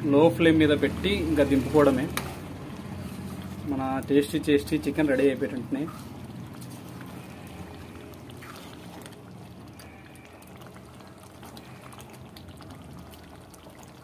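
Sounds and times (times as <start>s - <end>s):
thick gravy bubbling in a pan: 0.0s - 14.0s
ladle stirring: 0.7s - 14.0s.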